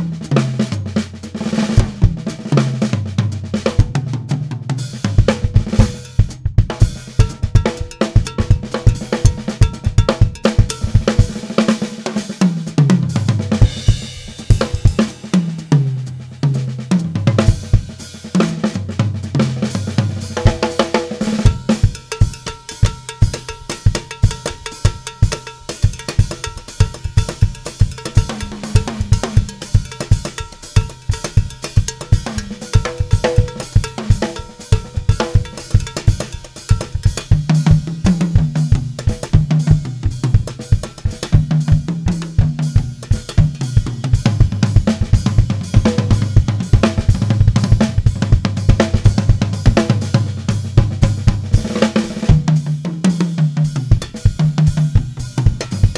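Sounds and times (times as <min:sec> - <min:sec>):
drum kit solo: 0:00.0 - 0:55.9.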